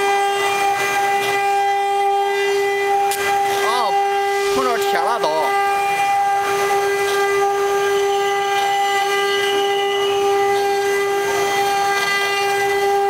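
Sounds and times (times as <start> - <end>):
router spindles whining: 0.0 - 13.0.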